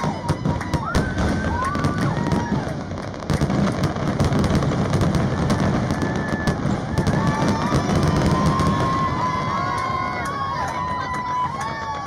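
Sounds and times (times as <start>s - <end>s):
fireworks bangs and crackling: 0.0s - 12.0s
fireworks whistling: 0.0s - 12.0s.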